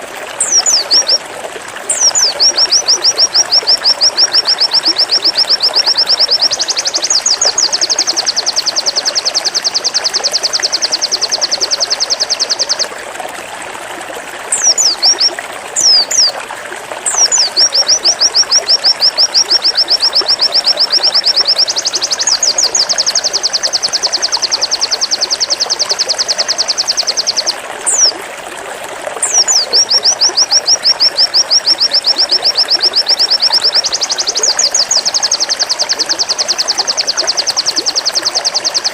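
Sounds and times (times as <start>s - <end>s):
bird singing rapid high notes: 0.0s - 1.2s, 1.9s - 12.9s, 14.5s - 16.4s, 17.0s - 28.2s, 29.2s - 38.9s.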